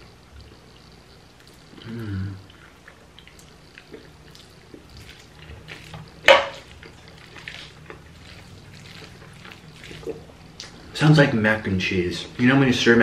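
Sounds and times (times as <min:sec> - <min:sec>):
sticky noodles being stirred: 0:02.5 - 0:13.0.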